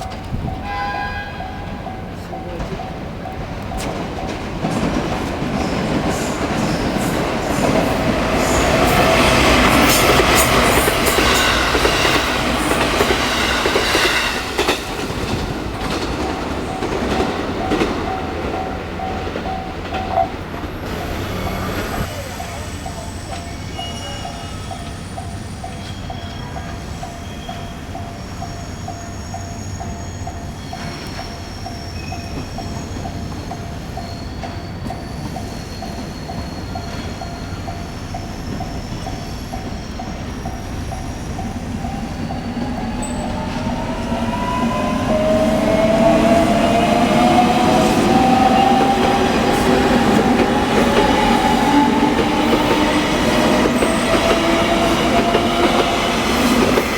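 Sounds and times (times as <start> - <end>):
train running noise: 0.0 - 56.9.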